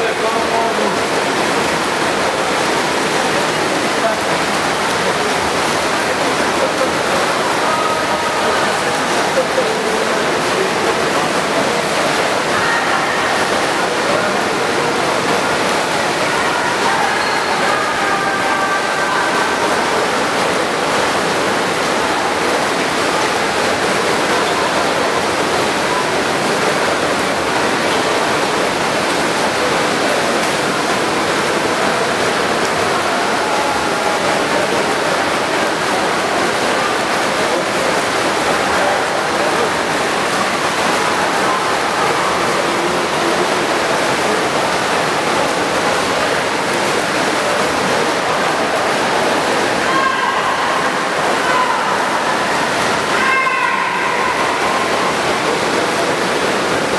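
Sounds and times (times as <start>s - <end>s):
echoing voices: 0.0s - 56.9s
swimmers splashing: 0.0s - 56.9s.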